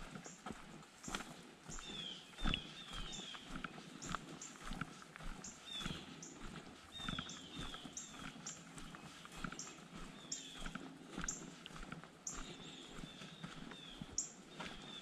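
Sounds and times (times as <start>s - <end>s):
birds calling: 0.0s - 15.0s
footsteps on dirt trail: 0.0s - 15.0s.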